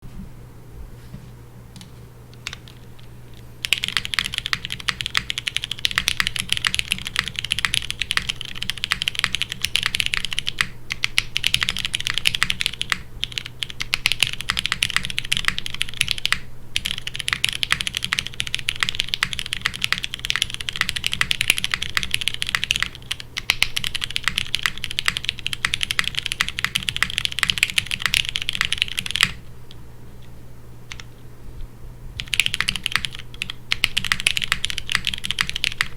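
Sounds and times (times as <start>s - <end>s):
fast typing on mechanical keyboard: 2.4s - 2.8s, 3.6s - 29.4s, 32.2s - 35.9s.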